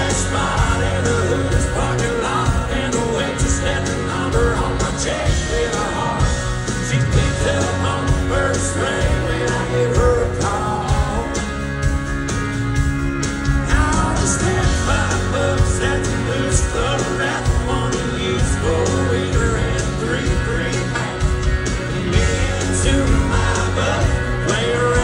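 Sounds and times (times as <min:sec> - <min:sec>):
man singing: 0:00.0 - 0:11.6, 0:13.6 - 0:25.0
country-rock band playing: 0:00.0 - 0:25.0.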